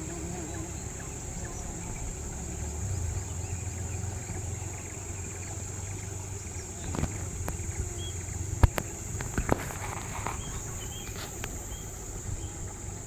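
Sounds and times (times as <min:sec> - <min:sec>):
insects droning: 0:00.0 - 0:13.0
low engine hum: 0:00.0 - 0:13.0.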